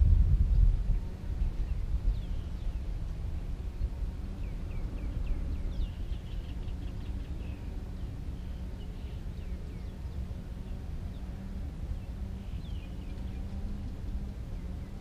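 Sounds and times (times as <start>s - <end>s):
steady low rumble: 0.0s - 15.0s
small birds chirping: 1.0s - 15.0s.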